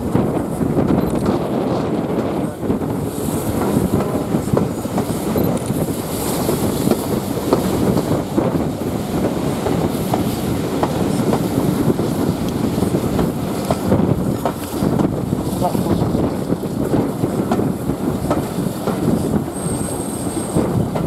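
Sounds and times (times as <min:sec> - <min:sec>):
train wheels clacking over rail joints: 0:00.1 - 0:21.0.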